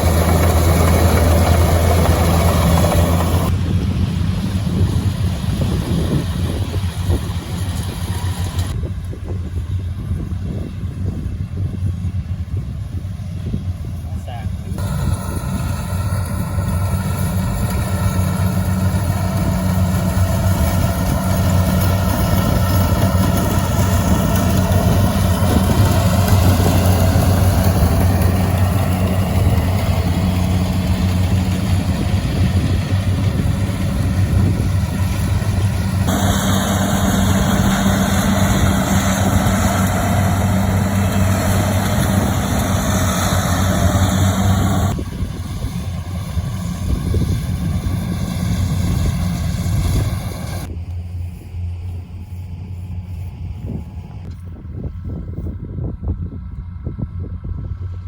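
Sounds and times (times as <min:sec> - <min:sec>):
engine humming steadily: 0:00.0 - 0:58.0.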